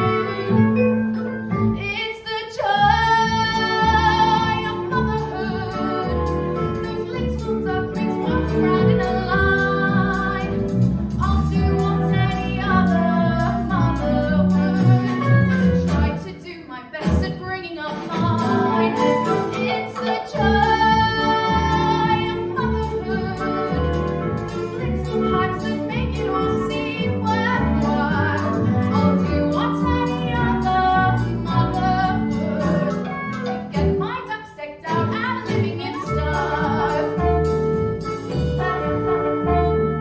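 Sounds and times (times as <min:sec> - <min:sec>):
instrumental accompaniment: 0:00.0 - 0:40.0
women singing: 0:01.8 - 0:33.1, 0:33.8 - 0:39.1.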